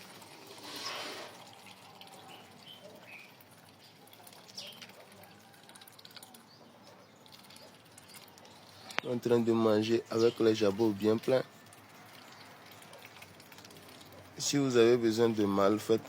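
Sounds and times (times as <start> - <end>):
ducks dabbling bills clicking: 0.0 - 16.0.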